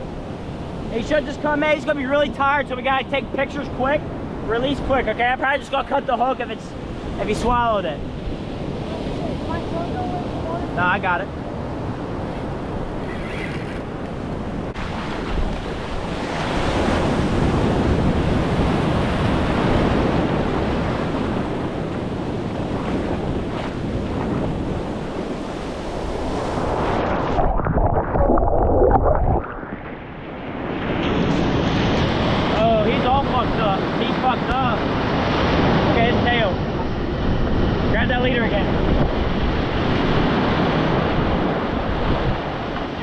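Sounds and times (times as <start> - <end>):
surf washing over shallows: 0.0 - 43.0
wind buffeting microphone: 6.7 - 43.0.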